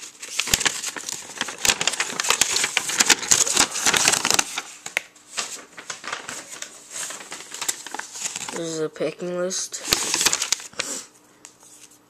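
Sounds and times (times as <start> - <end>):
packaging crinkling and rustling: 0.0 - 8.8, 9.8 - 10.9.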